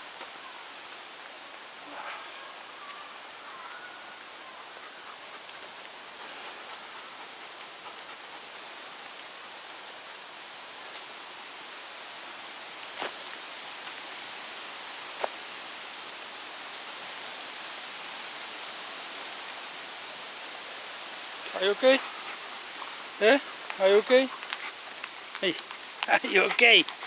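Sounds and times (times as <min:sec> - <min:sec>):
wind through trees: 0:00.0 - 0:27.0.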